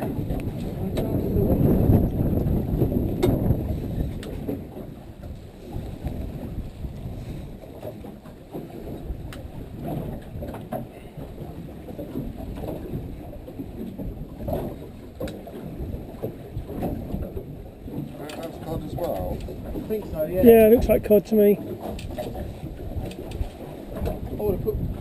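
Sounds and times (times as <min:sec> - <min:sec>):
sea: 0:00.0 - 0:25.0
wind: 0:00.0 - 0:25.0.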